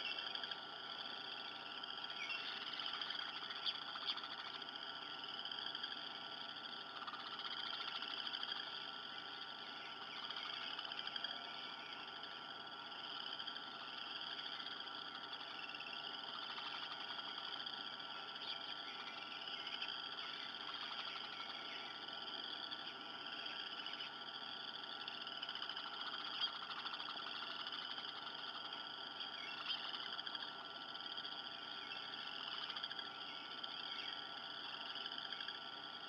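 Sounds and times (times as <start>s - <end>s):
chorus of frogs trilling: 0.0s - 36.0s.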